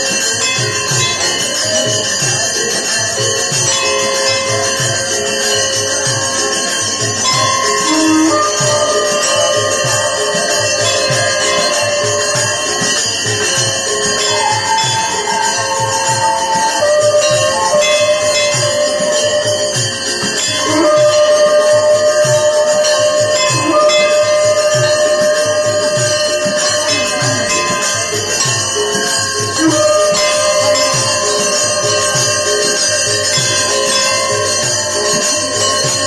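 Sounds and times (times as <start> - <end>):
jingling cymbals: 0.0 - 36.0
steady drumbeat: 0.0 - 36.0
long held tones: 3.7 - 36.0.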